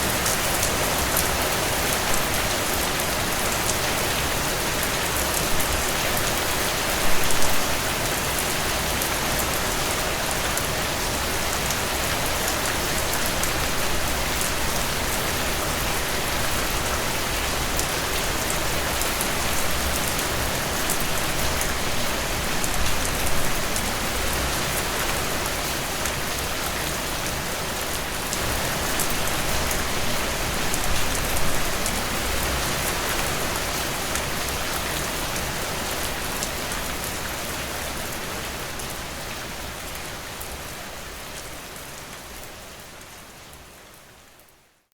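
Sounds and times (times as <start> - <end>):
heavy rain on hard surface: 0.0 - 44.9.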